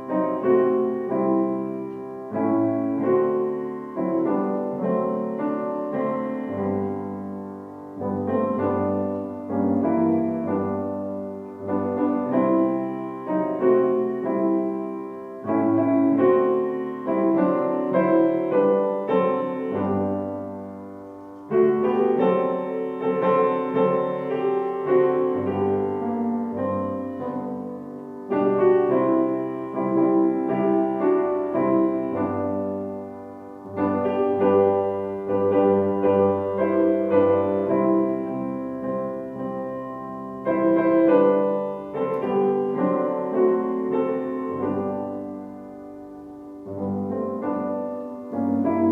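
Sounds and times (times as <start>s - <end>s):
slow solo piano piece: 0.0s - 48.9s.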